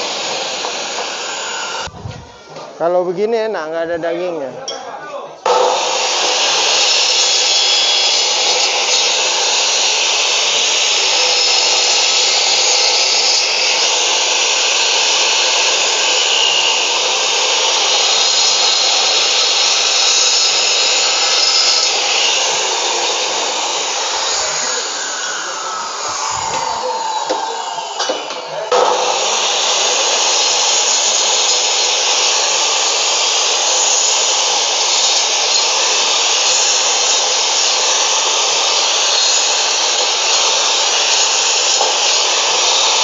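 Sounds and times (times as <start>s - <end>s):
loud whine with harsh rasp: 0.0s - 2.3s, 5.5s - 43.0s
saw cutting through bone: 5.5s - 43.0s.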